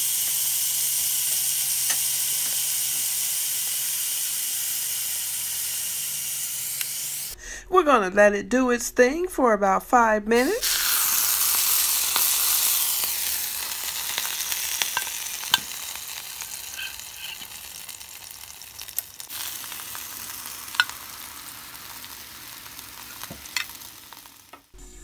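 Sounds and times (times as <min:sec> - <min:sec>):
steak sizzling on grill: 0:00.0 - 0:07.4, 0:10.4 - 0:24.8.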